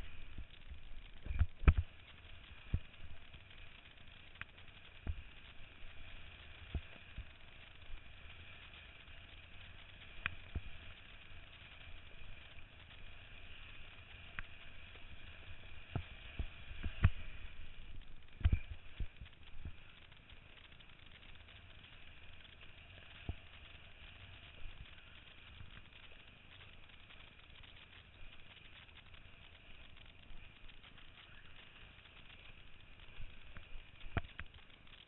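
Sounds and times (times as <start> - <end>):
muffled rush of water and wind: 0.0 - 35.0.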